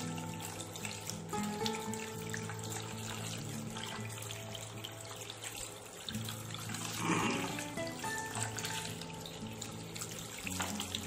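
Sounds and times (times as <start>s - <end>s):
tap water running into a sink: 0.0s - 11.0s
water splash: 0.0s - 11.0s.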